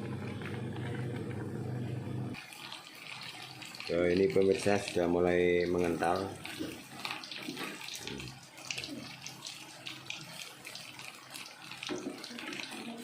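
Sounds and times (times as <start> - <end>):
syrup bubbling in a pot: 2.3 - 13.0.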